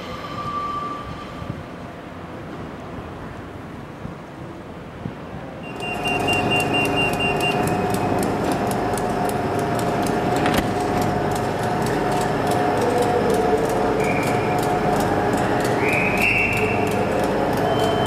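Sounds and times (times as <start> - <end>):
locomotive fans humming and whining: 0.0 - 18.0.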